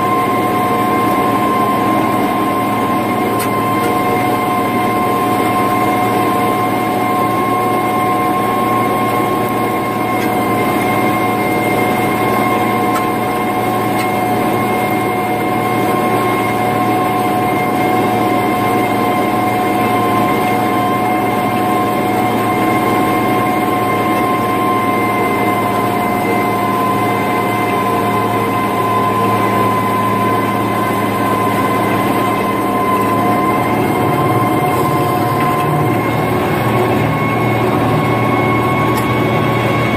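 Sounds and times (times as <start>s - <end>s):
steady high whine: 0.0s - 39.9s
tractor diesel engine drone: 0.0s - 39.9s.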